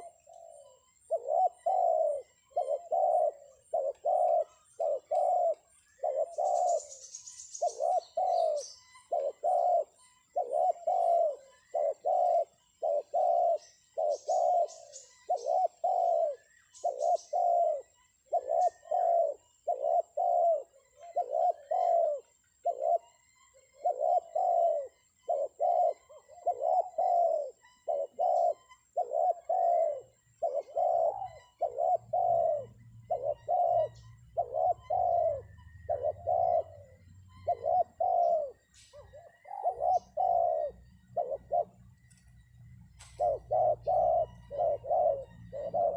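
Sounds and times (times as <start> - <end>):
dove cooing: 0.0 - 45.9
small bird chirping: 0.0 - 45.9.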